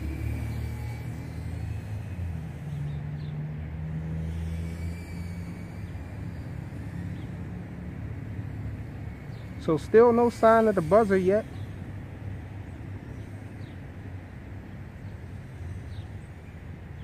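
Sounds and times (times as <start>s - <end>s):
distant drone motors whining: 0.0s - 17.0s
low outdoor rumble: 0.0s - 17.0s.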